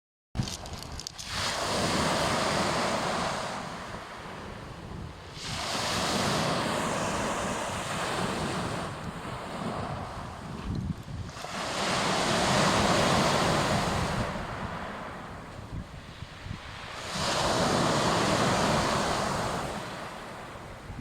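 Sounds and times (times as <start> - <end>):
wind buffeting microphone: 0.4 - 21.0
sea waves washing onto shore: 1.1 - 21.0.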